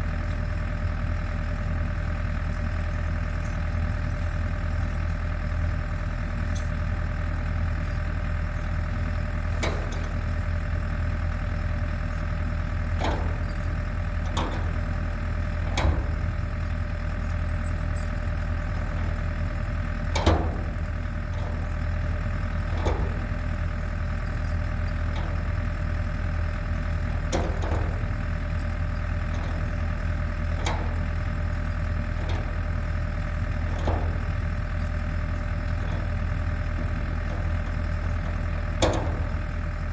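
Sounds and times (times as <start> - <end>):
generator engine humming: 0.0 - 39.9.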